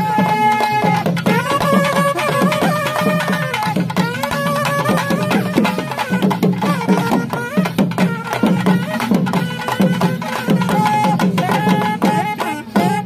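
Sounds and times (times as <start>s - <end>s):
hand drums beaten fast: 0.0s - 13.0s
wind instruments holding high notes: 0.0s - 13.0s.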